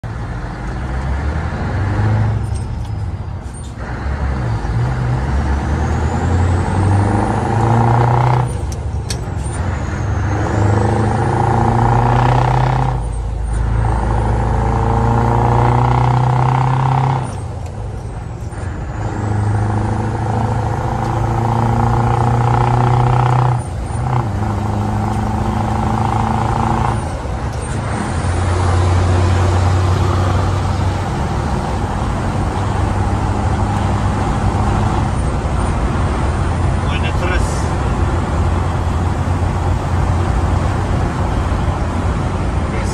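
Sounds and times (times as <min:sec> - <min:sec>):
truck diesel engine through gears: 0:00.0 - 0:42.9.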